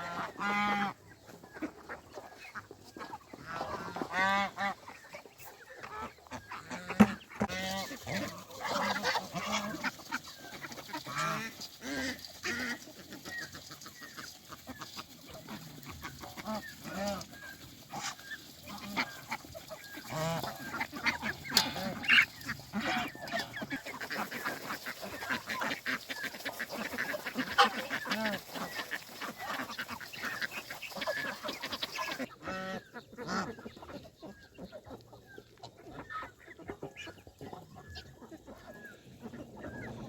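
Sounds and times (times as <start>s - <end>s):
geese honking: 0.0s - 40.0s
poultry calling: 0.0s - 40.0s.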